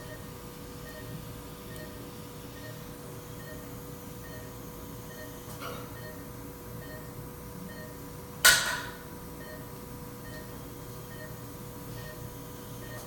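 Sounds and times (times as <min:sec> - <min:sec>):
patient monitor beeping: 0:00.0 - 0:08.0, 0:09.4 - 0:13.0
equipment hum: 0:00.0 - 0:13.0.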